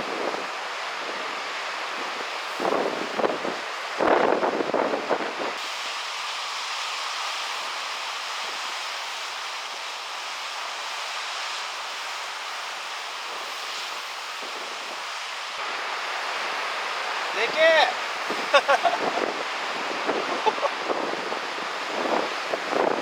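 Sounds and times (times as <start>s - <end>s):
sea rushing: 0.0s - 23.0s
wind: 0.0s - 23.0s.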